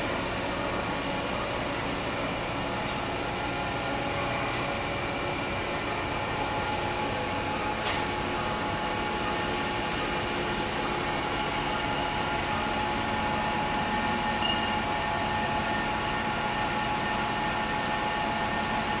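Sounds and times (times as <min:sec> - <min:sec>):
lathe running with whine: 0:00.0 - 0:19.0.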